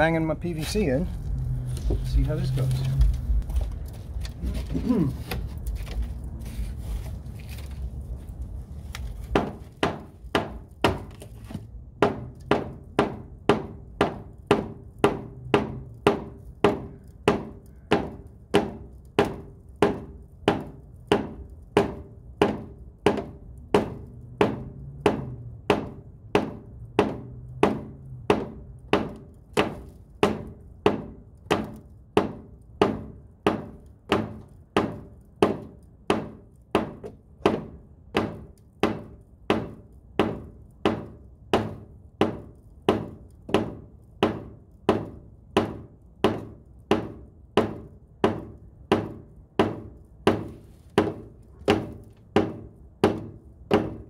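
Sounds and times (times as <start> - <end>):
rubber mallet pounding pipe: 9.2 - 54.0.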